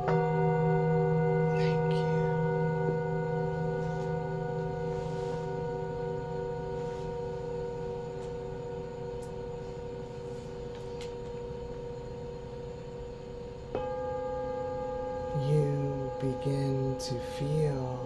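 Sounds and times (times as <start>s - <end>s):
singing bowl ringing: 0.0s - 18.0s.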